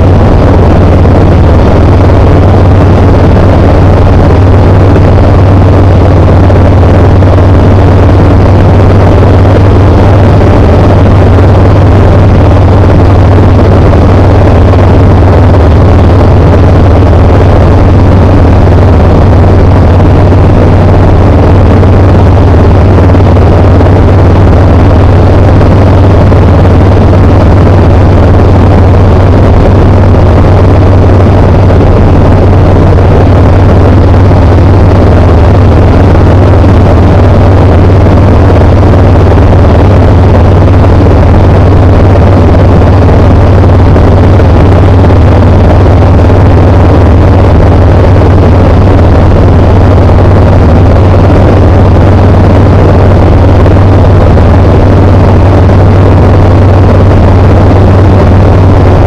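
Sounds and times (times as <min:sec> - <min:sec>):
light aircraft engine drone: 0:00.0 - 0:49.4.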